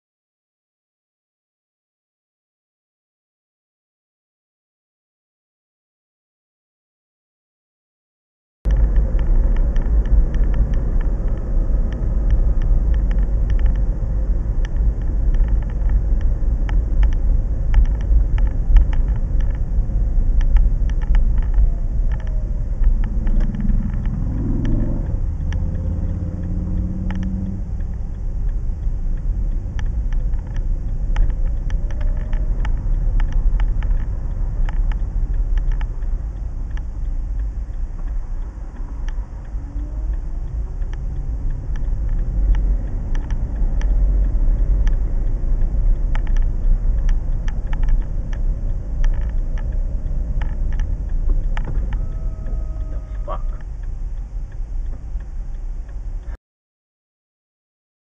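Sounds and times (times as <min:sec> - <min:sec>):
car road rumble: 0:08.7 - 0:56.4.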